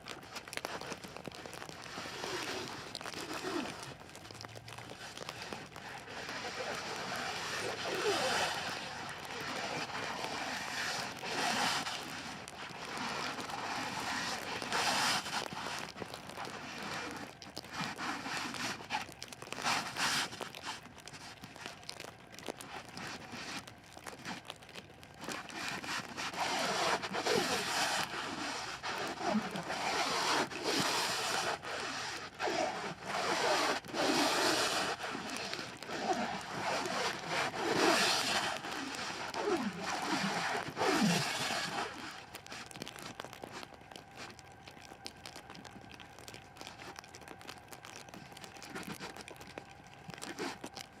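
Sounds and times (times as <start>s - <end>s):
plastic wrap crackling: 0.0s - 51.0s.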